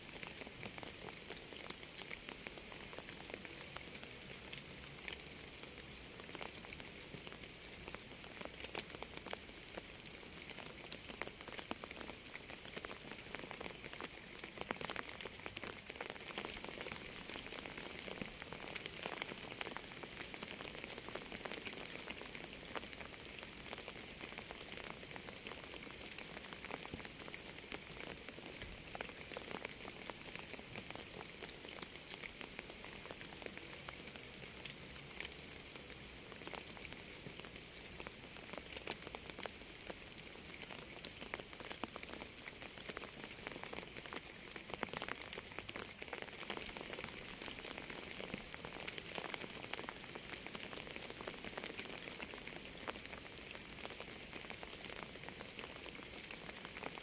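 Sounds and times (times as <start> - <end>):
raindrops ticking: 0.1 - 57.0.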